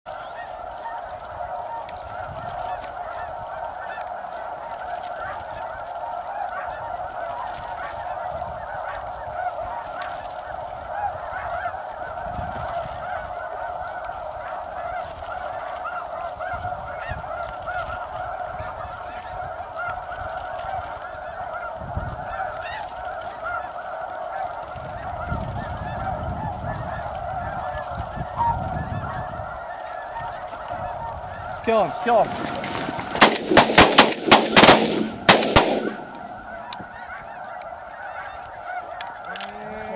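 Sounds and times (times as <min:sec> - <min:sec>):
snow geese honking: 0:00.1 - 0:39.9.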